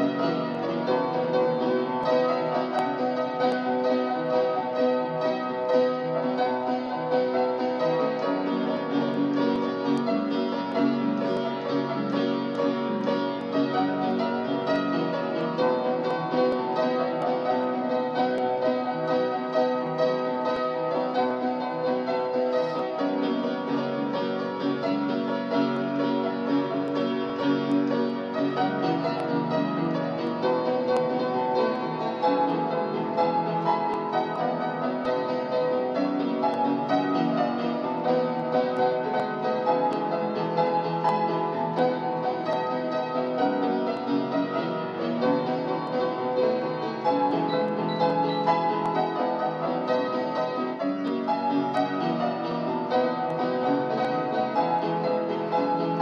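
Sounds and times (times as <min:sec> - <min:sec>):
piano melody over chords: 0:00.0 - 0:56.0.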